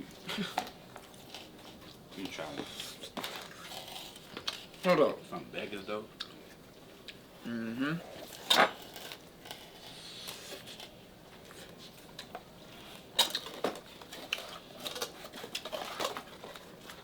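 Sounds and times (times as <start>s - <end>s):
faint chewing: 0.0s - 5.2s, 6.2s - 7.3s, 8.0s - 17.0s.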